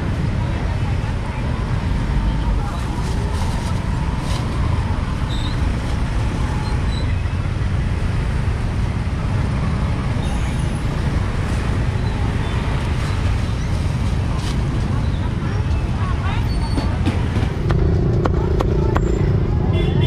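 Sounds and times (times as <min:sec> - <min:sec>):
motorbike and vehicle traffic: 0:00.0 - 0:20.0.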